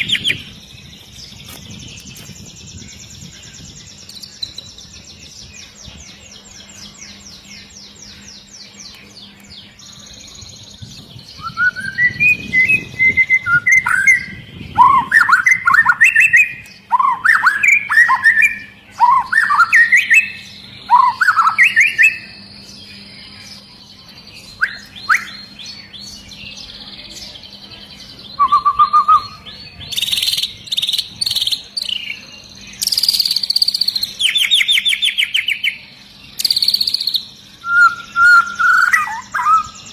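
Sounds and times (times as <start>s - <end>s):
bird whistling song: 0.0s - 26.8s, 27.6s - 39.9s.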